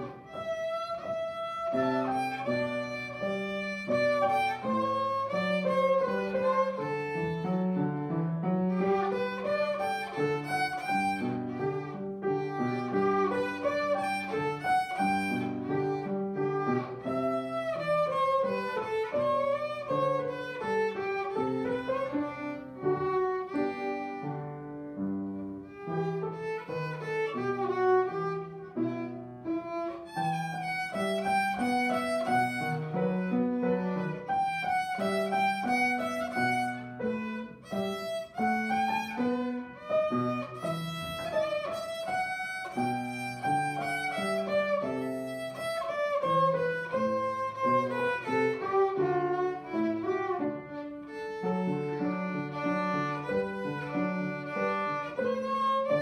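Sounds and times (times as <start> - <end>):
grand piano accompaniment: 0.0 - 56.0
violin melody: 0.0 - 56.0.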